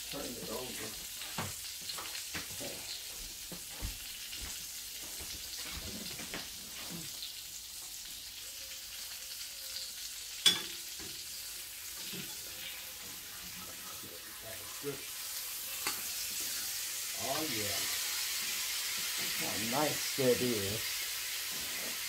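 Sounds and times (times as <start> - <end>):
oil sizzling in frying pans: 0.0 - 22.0.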